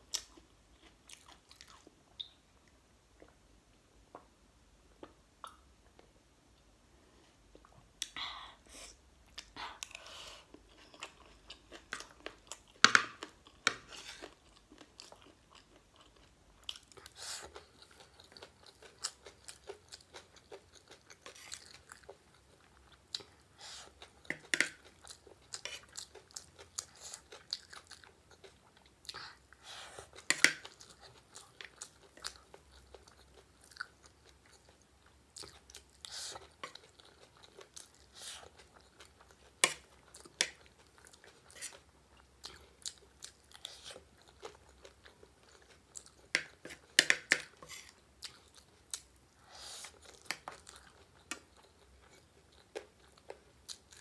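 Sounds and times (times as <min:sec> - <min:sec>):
chewing and soft crunching: 0:00.0 - 0:08.2, 0:09.2 - 0:54.0.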